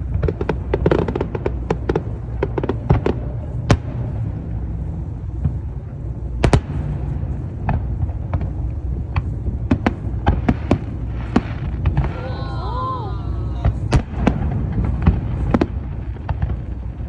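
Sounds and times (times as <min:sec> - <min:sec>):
fireworks cracking and popping: 0:00.0 - 0:04.3, 0:06.4 - 0:17.0
low rumble: 0:00.0 - 0:17.0.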